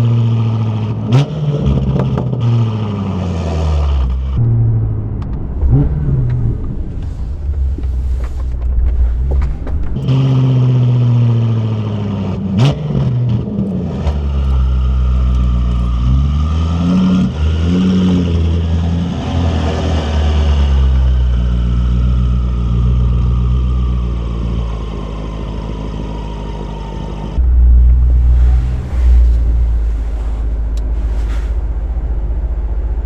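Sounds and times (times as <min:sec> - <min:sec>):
car engine revving while driving: 0:00.0 - 0:33.0.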